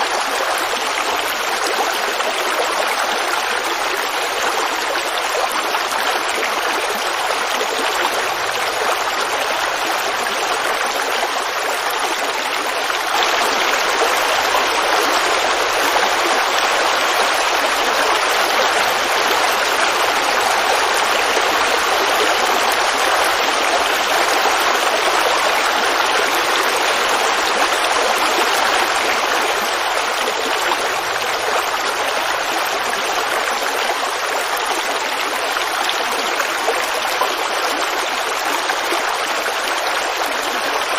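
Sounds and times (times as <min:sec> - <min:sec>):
creek babbling over rocks: 0:00.0 - 0:40.9.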